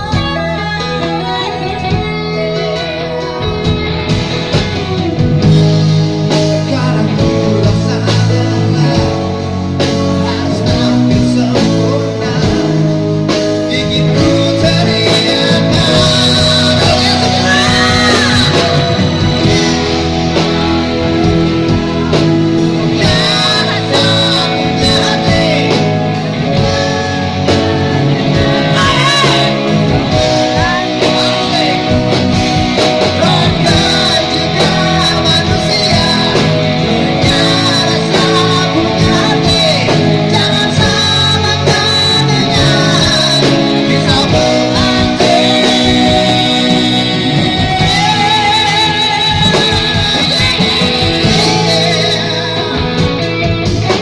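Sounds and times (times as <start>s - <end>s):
rock music with singer: 0.0s - 54.0s.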